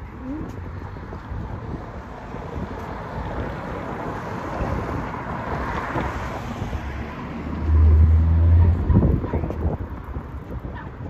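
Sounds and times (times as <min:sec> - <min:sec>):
steady outdoor rumble: 0:00.0 - 0:11.0
wind buffeting microphone: 0:00.0 - 0:11.0.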